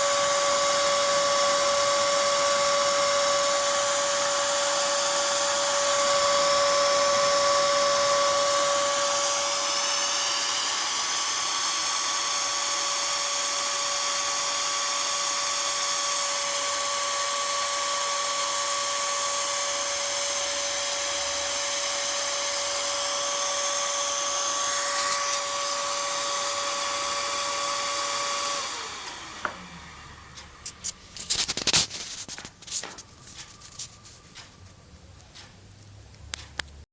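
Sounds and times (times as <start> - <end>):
computer fan whining: 0.0 - 36.8.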